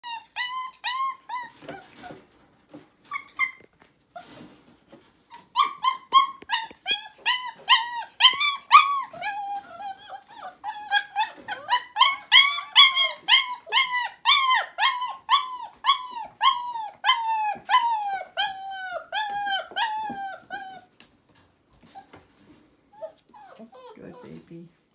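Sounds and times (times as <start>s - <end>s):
puppies whining: 0.0s - 24.6s.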